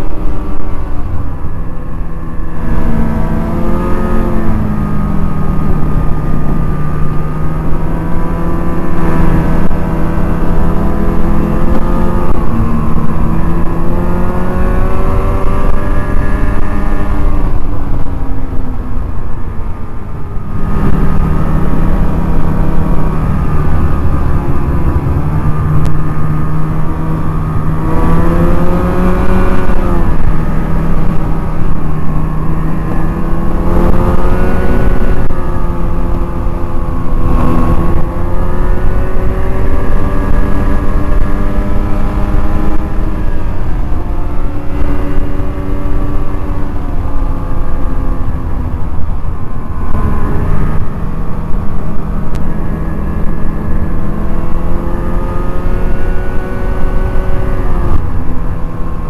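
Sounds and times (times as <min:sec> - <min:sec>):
snowmobile engine revving: 0:00.0 - 0:18.0, 0:20.3 - 0:59.0.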